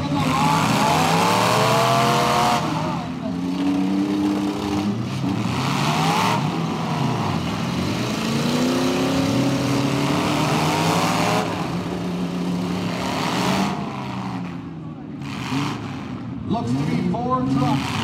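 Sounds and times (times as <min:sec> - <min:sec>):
pickup truck engines revving: 0:00.0 - 0:18.0.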